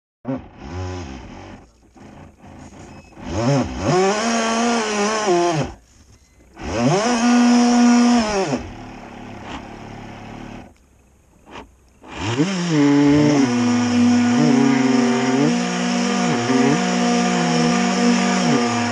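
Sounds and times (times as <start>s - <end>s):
electric motor whining: 0.3s - 5.8s, 6.5s - 10.7s, 11.4s - 18.9s.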